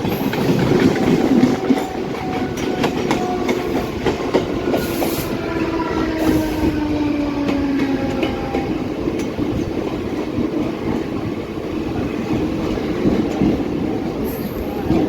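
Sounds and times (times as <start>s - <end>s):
steady train whine: 0.0s - 15.0s.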